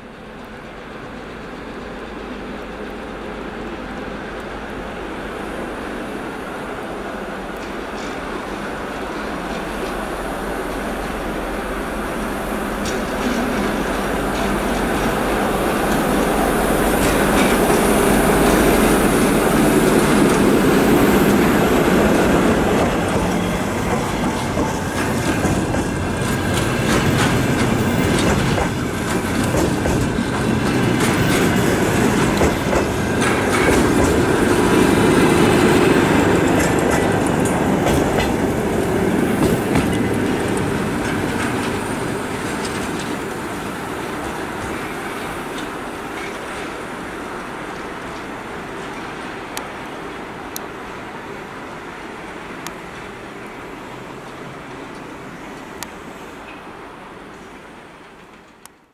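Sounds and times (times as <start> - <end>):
train wheels rolling on rails: 0.0 - 58.9.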